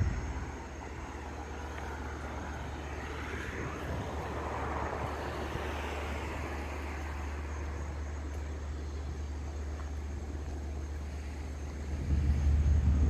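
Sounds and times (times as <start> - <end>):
distant vehicle passing: 0.0 - 13.0
steady low rumble: 0.0 - 13.0.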